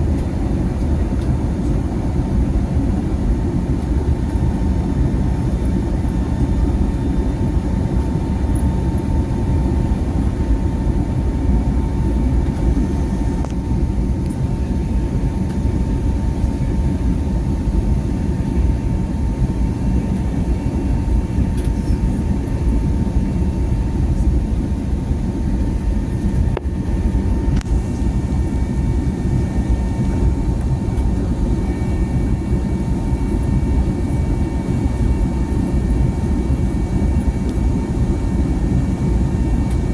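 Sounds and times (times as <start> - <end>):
faint steady whine: 0.0 - 39.9
jet engine cabin rumble: 0.0 - 39.9.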